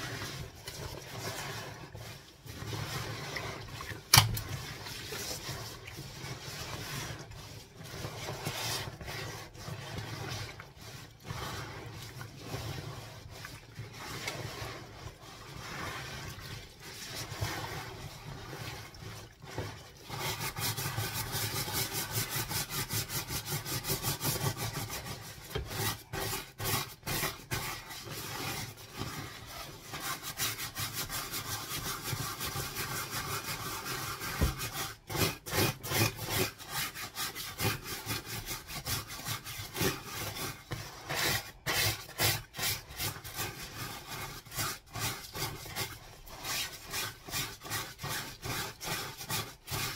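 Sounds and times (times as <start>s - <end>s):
hands working soaked fabric: 0.0s - 49.9s
scrub brush scrubbing wet fabric: 0.0s - 49.9s.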